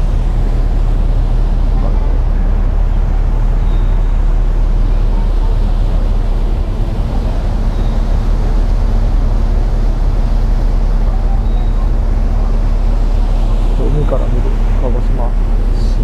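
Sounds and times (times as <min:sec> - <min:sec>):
ferry engines humming: 0:00.0 - 0:16.0.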